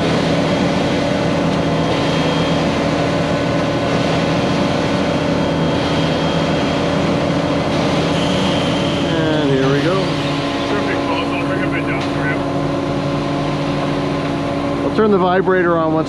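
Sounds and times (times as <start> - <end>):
heavy diesel engines running: 0.0 - 16.0.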